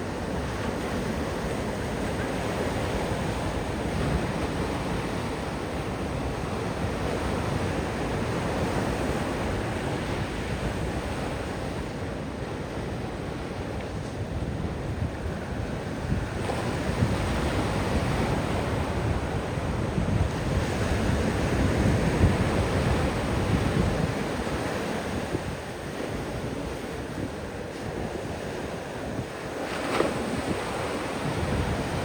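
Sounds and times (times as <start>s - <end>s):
ocean surf breaking: 0.0s - 32.0s
wind rumble on microphone: 0.0s - 32.0s.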